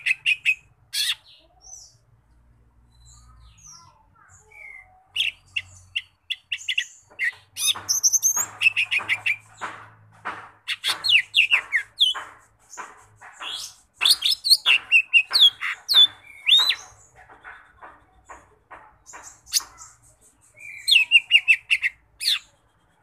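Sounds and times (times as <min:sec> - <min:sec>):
bird singing: 0:00.0 - 0:09.8, 0:10.7 - 0:23.0.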